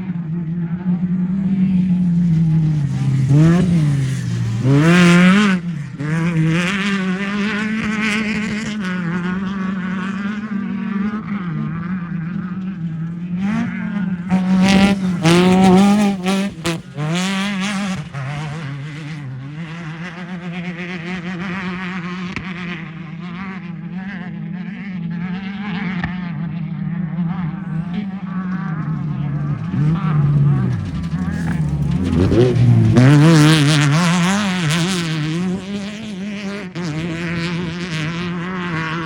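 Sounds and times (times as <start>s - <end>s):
race car engine at high revs: 0.0s - 39.0s.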